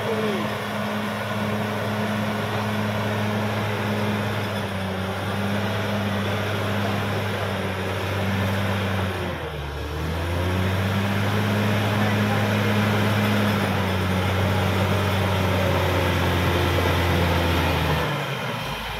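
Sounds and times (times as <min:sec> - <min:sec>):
bulldozer diesel engine running: 0:00.0 - 0:18.9.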